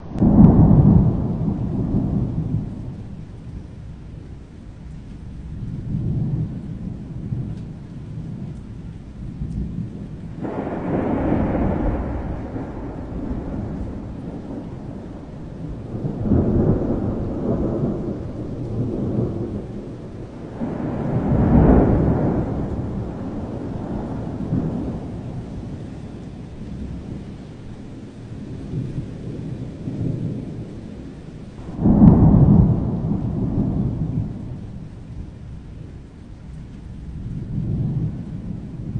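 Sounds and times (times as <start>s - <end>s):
rolling thunder: 0.0s - 38.9s
steady rain: 0.0s - 38.9s.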